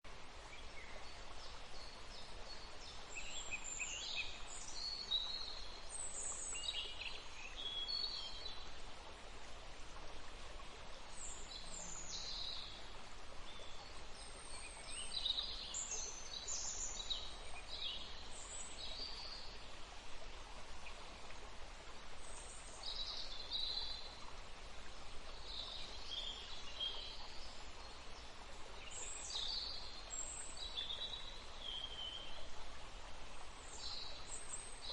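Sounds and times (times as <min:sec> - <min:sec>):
water flowing: 0:00.1 - 0:34.9.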